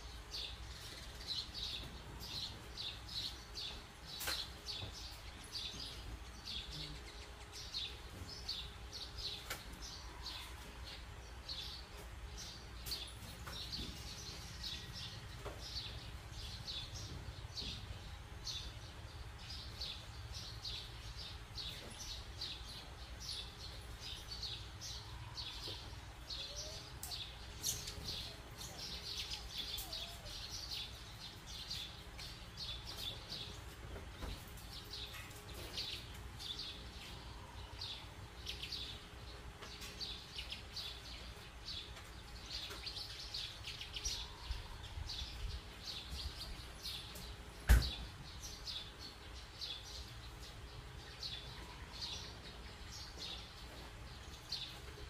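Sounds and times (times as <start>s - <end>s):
faint low hum: 0.0s - 55.0s
small birds chirping: 0.0s - 55.0s.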